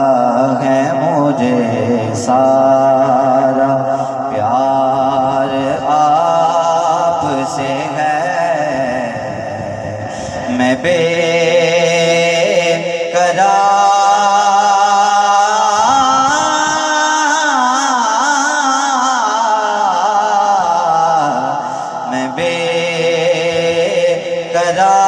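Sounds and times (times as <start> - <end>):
man singing into microphone: 0.0 - 25.0.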